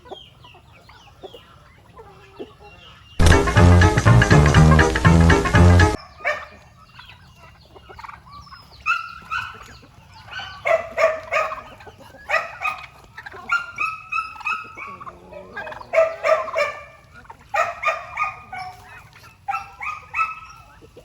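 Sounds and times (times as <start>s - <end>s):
turkeys calling: 0.0s - 21.0s.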